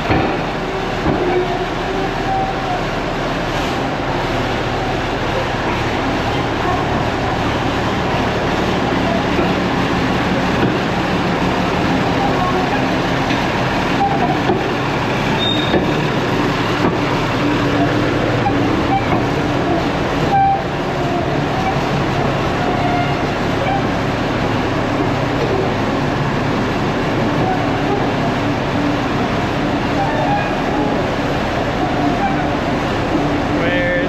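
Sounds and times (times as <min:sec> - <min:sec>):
bulldozer running: 0:00.0 - 0:34.0.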